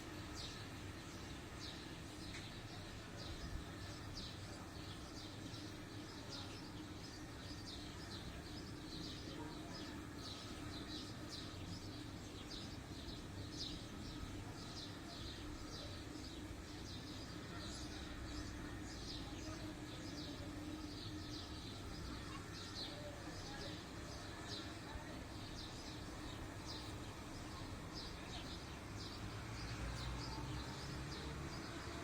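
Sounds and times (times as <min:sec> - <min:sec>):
small birds chirping: 0:00.1 - 0:32.0.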